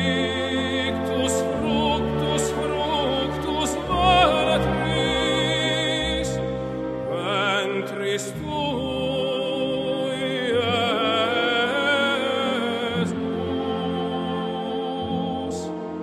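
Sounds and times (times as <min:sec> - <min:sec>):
operatic voice singing: 0:00.0 - 0:16.0.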